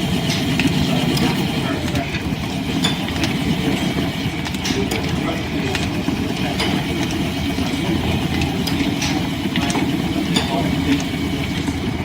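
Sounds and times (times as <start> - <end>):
wood lathe mechanical rumble: 0.0 - 12.0.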